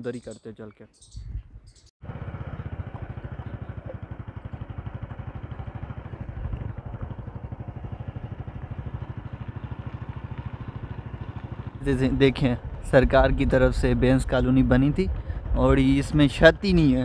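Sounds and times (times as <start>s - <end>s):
motorcycle engine running: 2.0s - 17.0s.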